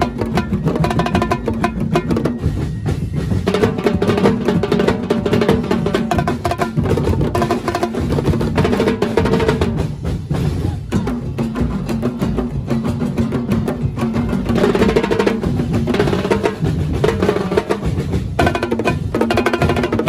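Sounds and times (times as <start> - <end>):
drum ensemble beating fast rhythm: 0.0 - 20.0.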